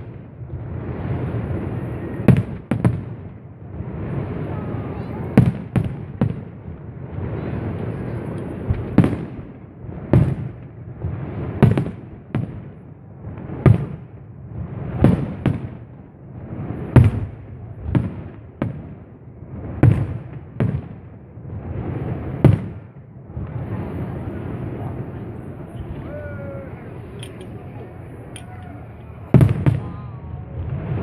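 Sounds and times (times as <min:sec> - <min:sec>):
firework bangs: 0:00.0 - 0:31.0
low rumbling and crackling: 0:00.0 - 0:31.0.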